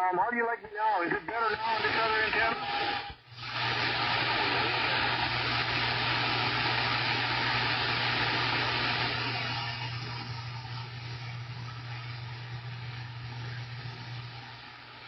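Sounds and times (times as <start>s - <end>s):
radio static hiss: 0.0s - 15.0s
low hum: 0.5s - 15.0s.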